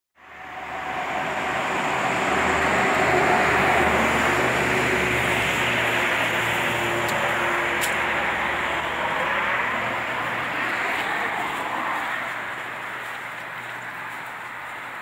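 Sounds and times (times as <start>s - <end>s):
passing motor vehicle rushing: 0.2s - 15.0s.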